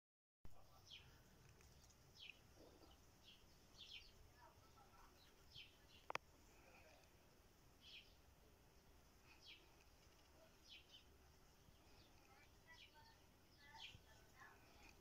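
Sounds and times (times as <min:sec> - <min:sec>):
faint songbird chirps: 0:00.5 - 0:15.0.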